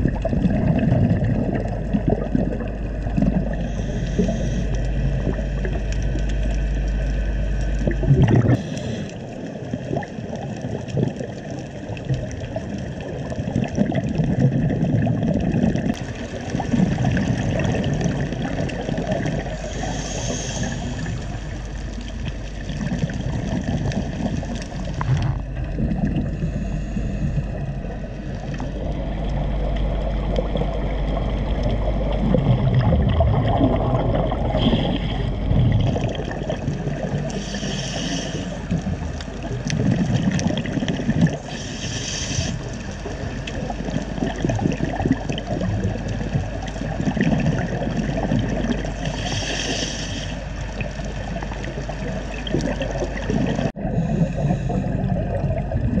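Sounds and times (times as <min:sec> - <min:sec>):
underwater rumbling wash: 0:00.0 - 0:56.0
hissing water surges: 0:07.8 - 0:56.0.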